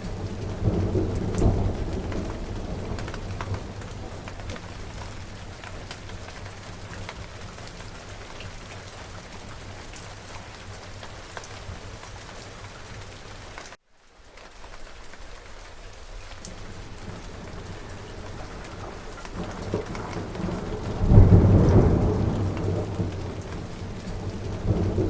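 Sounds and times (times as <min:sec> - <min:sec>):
raindrops ticking: 0:00.0 - 0:25.0
steady rain falling: 0:00.0 - 0:25.0.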